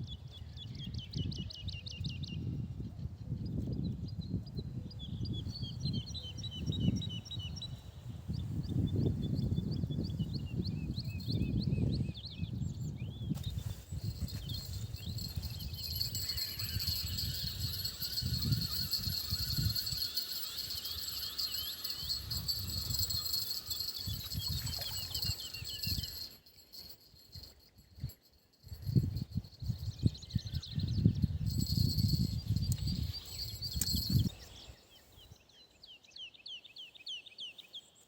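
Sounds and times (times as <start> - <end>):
songbirds chirping: 3.8 - 38.0.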